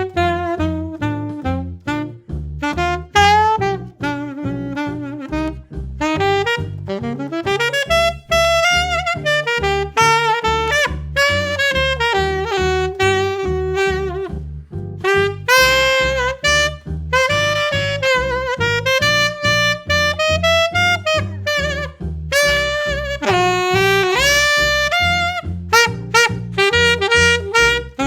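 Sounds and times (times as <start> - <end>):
alto saxophone jazz melody: 0.0 - 28.0
steady bass line: 0.0 - 28.0.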